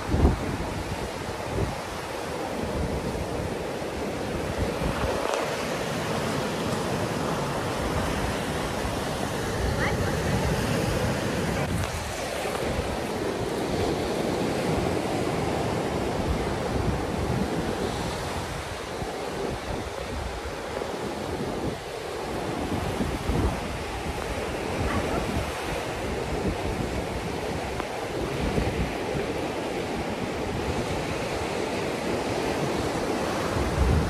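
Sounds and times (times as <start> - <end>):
ocean surf washing on shore: 0.0 - 34.0
wind gusting on microphone: 0.0 - 34.0.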